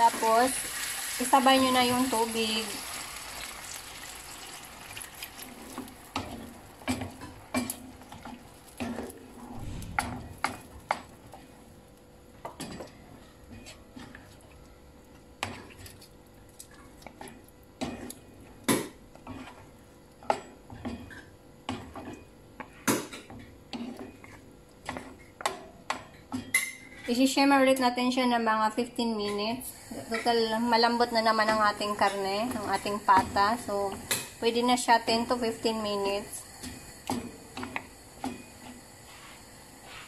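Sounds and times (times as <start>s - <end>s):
faint sizzle: 0.0s - 18.8s, 26.6s - 40.0s.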